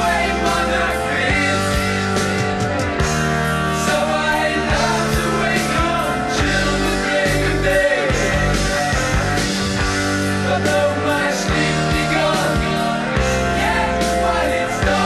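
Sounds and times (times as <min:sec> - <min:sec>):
progressive rock band playing: 0:00.0 - 0:15.0.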